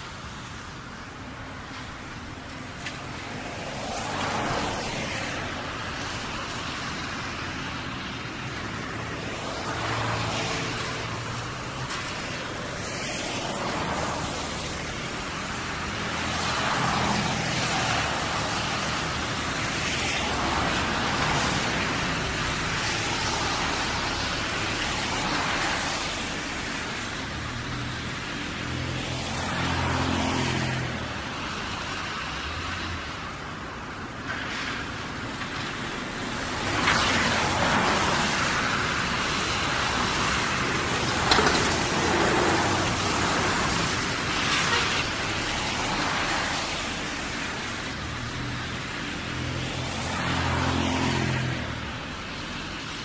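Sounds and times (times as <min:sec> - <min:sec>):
cars passing on wet road: 0:00.0 - 0:53.0.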